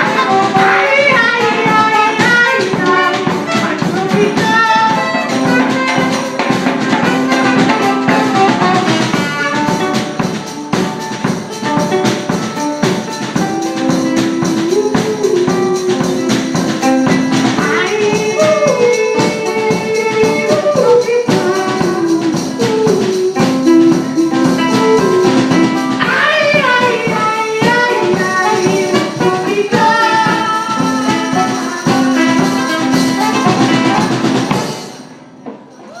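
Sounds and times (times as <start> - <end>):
person singing: 0.0 - 11.0, 11.6 - 34.7
live band playing: 0.0 - 36.0.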